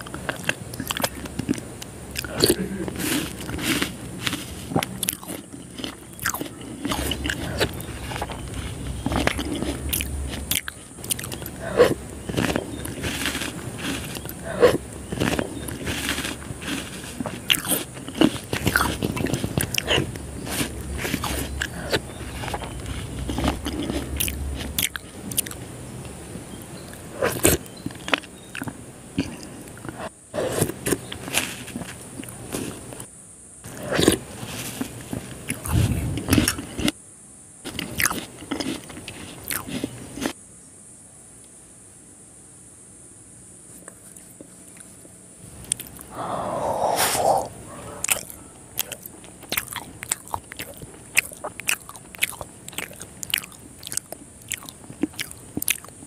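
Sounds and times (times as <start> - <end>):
chewing and mouth clicks: 0.0 - 37.0, 37.6 - 40.4, 43.7 - 56.0.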